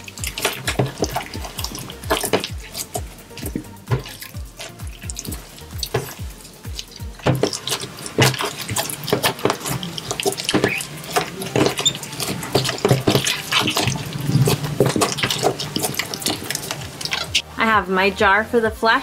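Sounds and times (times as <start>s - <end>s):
slime squelching by hand: 0.0s - 17.4s.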